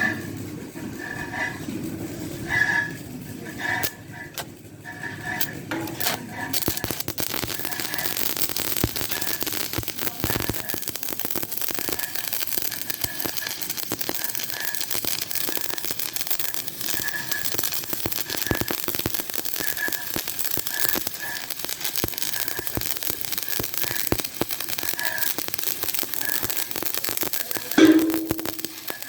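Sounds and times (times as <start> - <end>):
electric arc welding crackle: 5.4 - 29.0.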